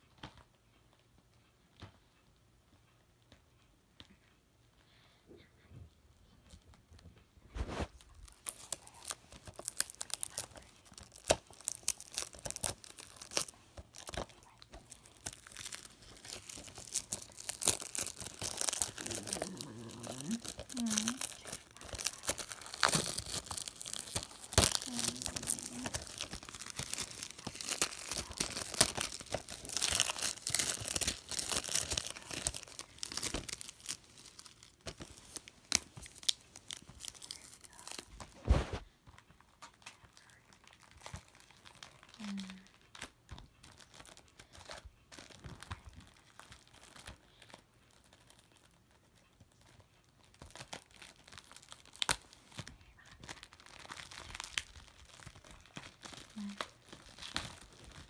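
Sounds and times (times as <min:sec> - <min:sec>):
packaging crinkling and tearing: 0:07.5 - 0:58.0.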